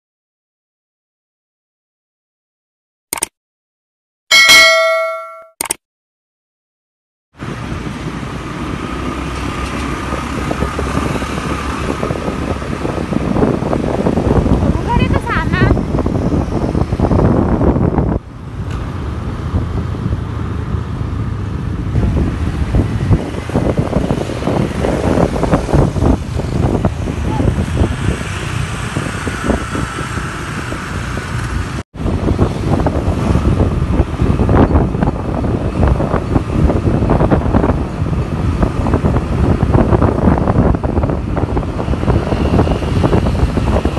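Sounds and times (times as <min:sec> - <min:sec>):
vehicle engine and road noise: 0:07.3 - 0:43.9
motorcycle and car traffic: 0:07.4 - 0:43.9
wind buffeting microphone: 0:07.4 - 0:43.9.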